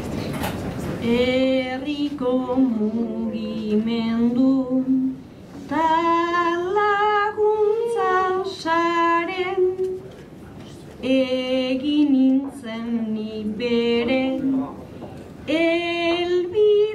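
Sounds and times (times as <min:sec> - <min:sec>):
woman singing unaccompanied: 0:01.0 - 0:09.9, 0:11.0 - 0:14.7, 0:15.5 - 0:16.9.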